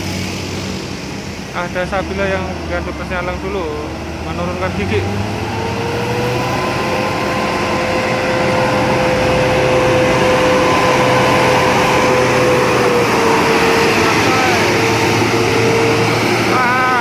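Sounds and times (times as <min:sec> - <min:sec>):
bus diesel engine roaring: 0:00.0 - 0:17.0
engine whine: 0:00.0 - 0:17.0.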